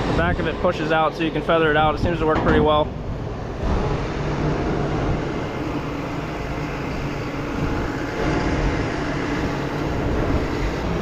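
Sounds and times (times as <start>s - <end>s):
diesel tractors running: 0.0s - 11.0s.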